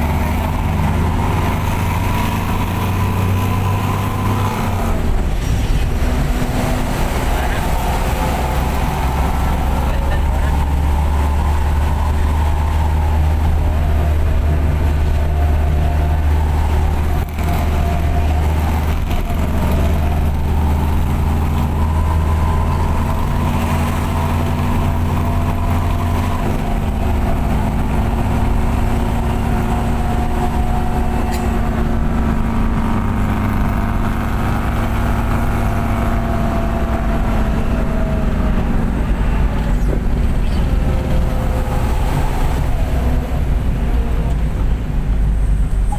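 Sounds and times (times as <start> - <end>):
minibus engine droning: 0.0 - 45.9.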